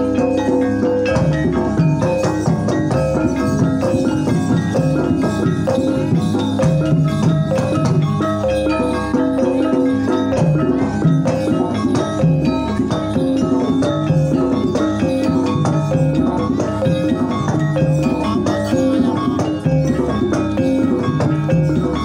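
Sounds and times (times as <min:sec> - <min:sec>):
hand drums: 0:00.0 - 0:22.0
mallet-struck keyed instruments: 0:00.0 - 0:22.0.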